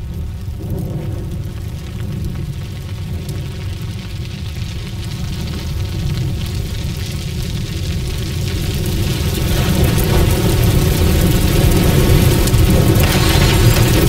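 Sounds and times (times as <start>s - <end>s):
fire roaring: 0.0s - 14.0s.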